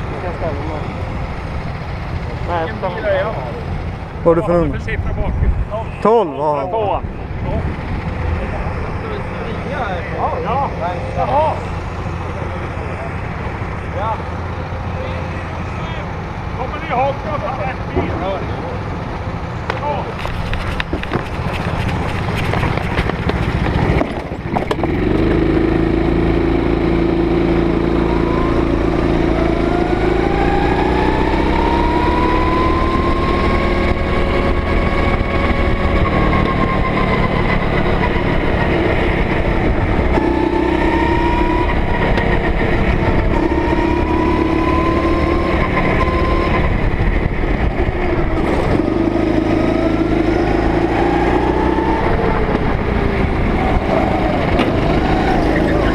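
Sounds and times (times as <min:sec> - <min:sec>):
go-kart engine revving: 0:06.5 - 0:55.9.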